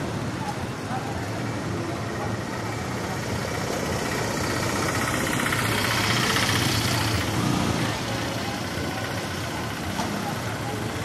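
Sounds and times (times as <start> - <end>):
street traffic: 0.0 - 11.0
vehicle engine rumble: 0.0 - 11.0.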